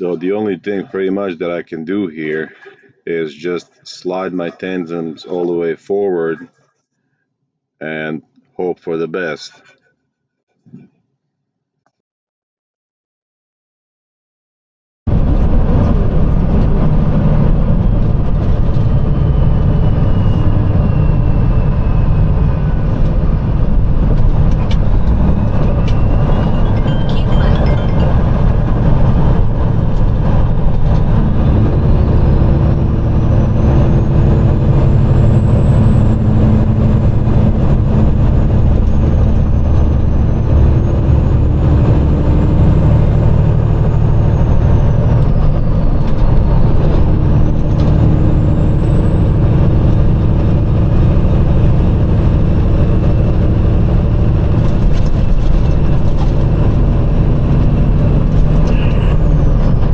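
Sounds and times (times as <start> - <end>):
truck diesel engine rumble: 0.0 - 5.7, 15.1 - 59.9.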